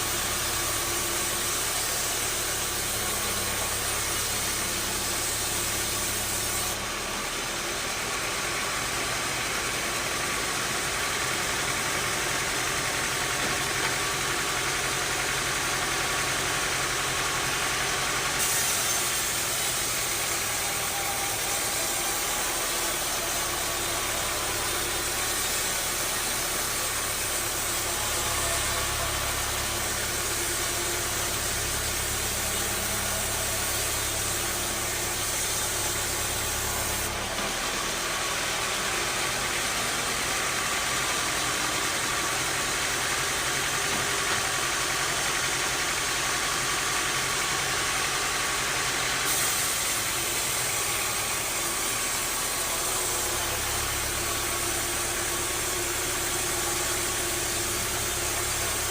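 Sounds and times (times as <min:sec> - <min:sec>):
bandsaw sawmill running: 0:00.0 - 0:58.9.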